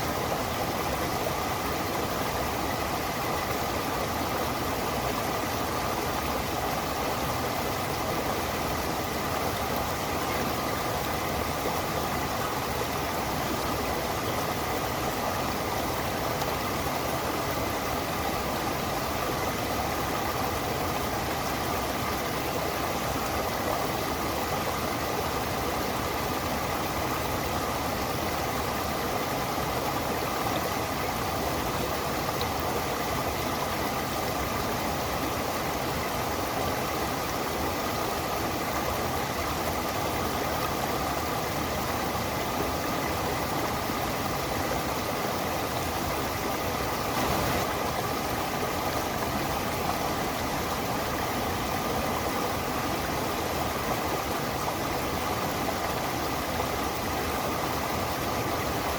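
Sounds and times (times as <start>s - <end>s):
stream water running: 0.0s - 58.9s.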